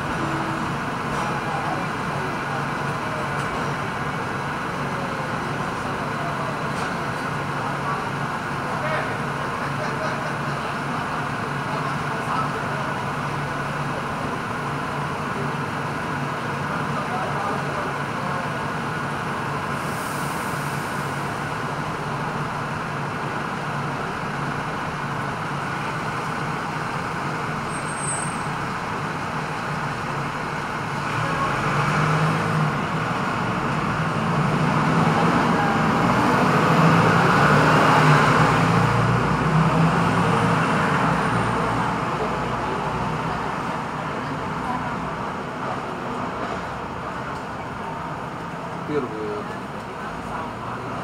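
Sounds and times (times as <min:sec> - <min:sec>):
heavy vehicle engine humming: 0:00.0 - 0:51.0
street traffic: 0:00.0 - 0:51.0.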